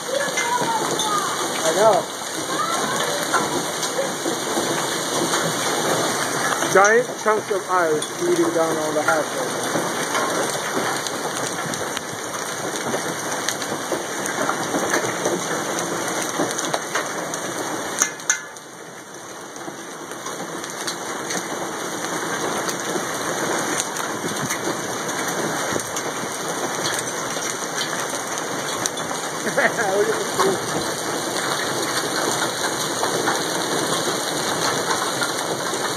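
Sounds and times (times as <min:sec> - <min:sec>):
hail pounding on roof: 0:00.0 - 0:35.9
hailstones clicking: 0:00.0 - 0:35.9.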